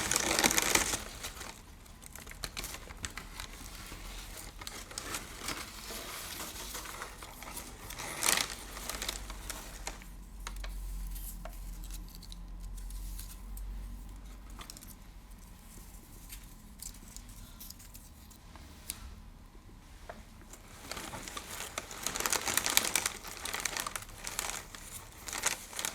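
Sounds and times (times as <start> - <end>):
crinkling: 0.0 - 19.0, 20.0 - 25.9.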